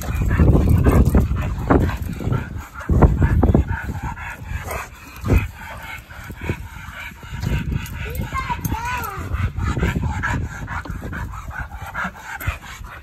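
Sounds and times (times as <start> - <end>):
dog barking and yipping: 0.0 - 13.0.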